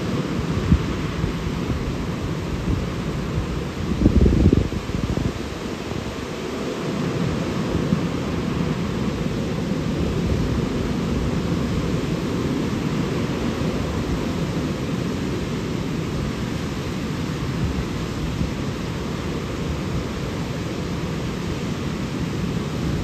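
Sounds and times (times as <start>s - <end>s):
fast-flowing river water: 0.0s - 23.0s.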